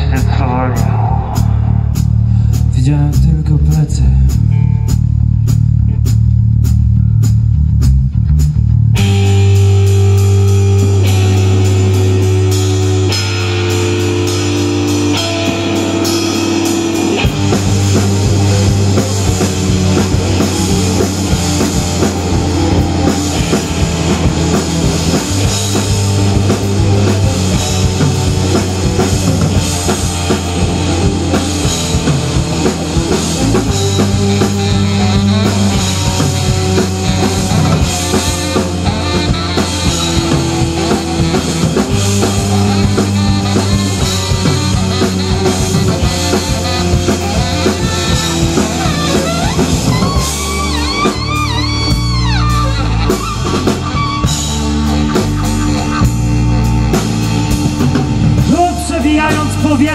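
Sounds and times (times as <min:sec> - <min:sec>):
bass line: 0:00.0 - 0:59.9
rock band playing: 0:00.0 - 0:59.9.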